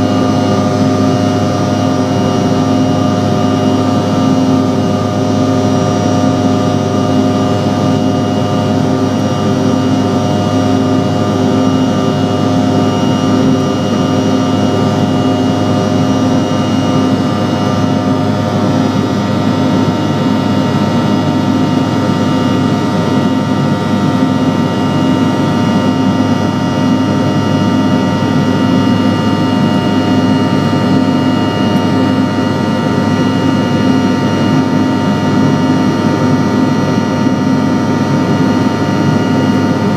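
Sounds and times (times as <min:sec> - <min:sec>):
constant whining engine tones: 0:00.0 - 0:39.9.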